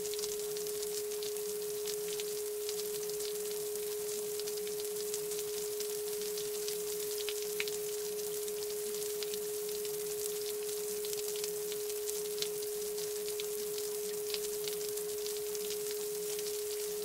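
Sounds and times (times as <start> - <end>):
faint crackle: 0.0 - 17.0.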